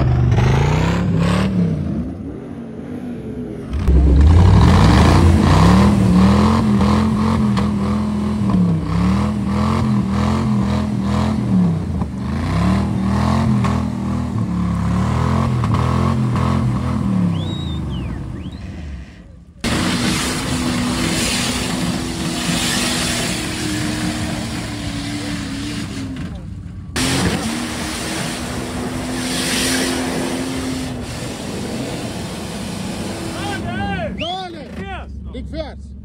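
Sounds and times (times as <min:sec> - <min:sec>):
engine revving hard: 0:00.0 - 0:03.0, 0:03.7 - 0:18.5, 0:19.6 - 0:26.1, 0:27.0 - 0:33.9.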